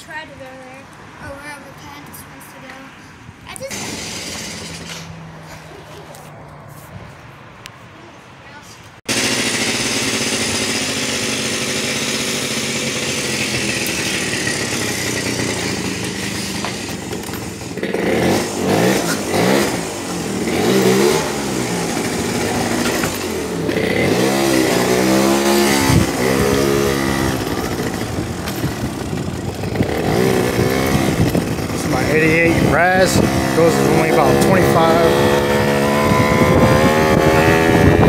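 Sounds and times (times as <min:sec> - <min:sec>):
scooter engine revving: 0:03.5 - 0:06.2, 0:09.1 - 0:38.0.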